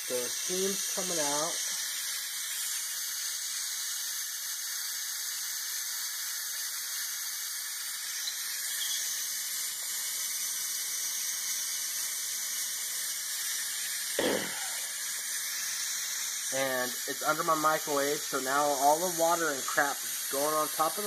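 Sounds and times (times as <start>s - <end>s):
steam hissing from valve: 0.0s - 21.0s.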